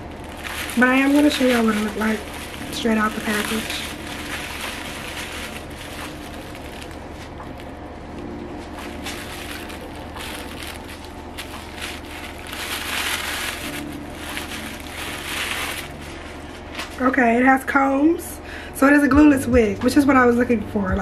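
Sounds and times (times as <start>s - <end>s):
plastic packaging rustling: 0.0s - 17.2s.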